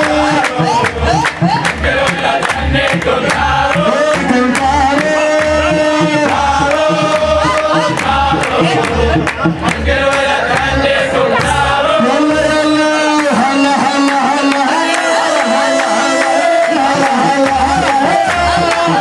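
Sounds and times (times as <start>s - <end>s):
man singing into a microphone: 0.0s - 1.6s, 3.2s - 9.7s, 11.6s - 19.0s
handclaps: 0.0s - 11.6s, 13.2s - 19.0s
group of men singing along: 0.0s - 19.0s
percussion beat: 0.0s - 19.0s.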